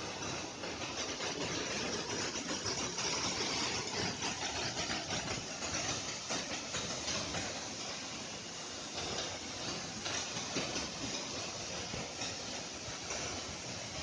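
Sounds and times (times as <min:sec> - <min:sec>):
waterfall roar: 0:00.0 - 0:13.8.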